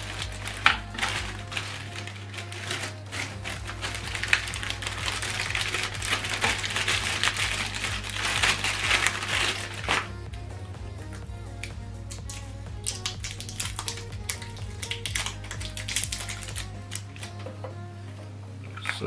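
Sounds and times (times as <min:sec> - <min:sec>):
packaging crinkling: 0:00.0 - 0:10.2, 0:12.1 - 0:17.5
steady low hum: 0:00.0 - 0:19.0.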